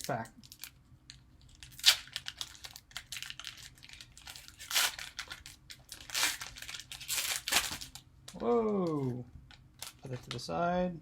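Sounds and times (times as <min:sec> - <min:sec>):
plastic wrapper crinkling and tearing: 0:00.0 - 0:10.5.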